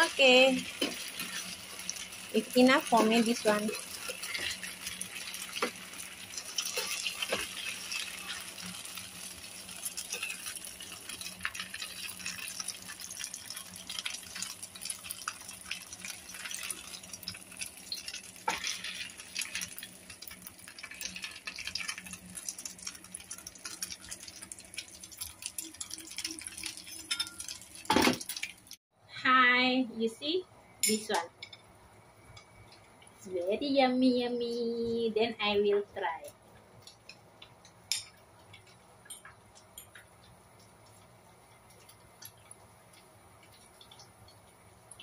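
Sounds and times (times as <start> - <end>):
oil sizzling in a pan: 0.0 - 28.8, 36.0 - 45.0.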